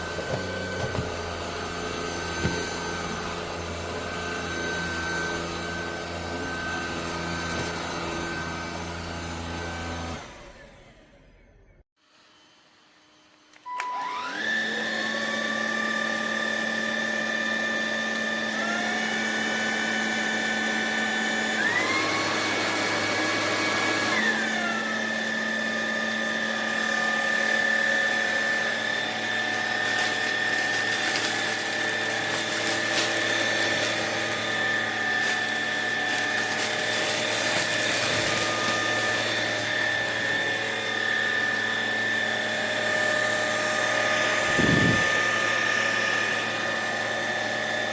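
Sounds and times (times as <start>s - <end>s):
vacuum motor whining: 0.0s - 47.9s.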